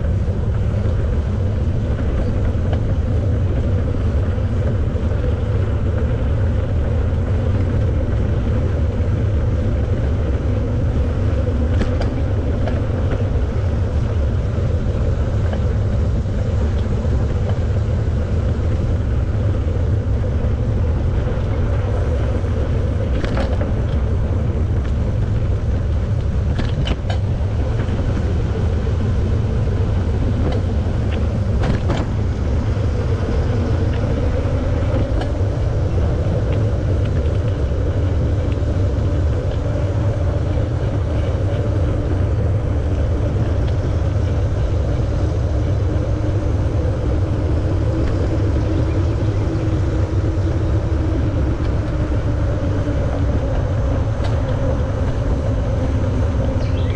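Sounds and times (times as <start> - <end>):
bicycle tyre rolling noise: 0.0 - 56.9
wind rumble on microphone: 0.0 - 56.9.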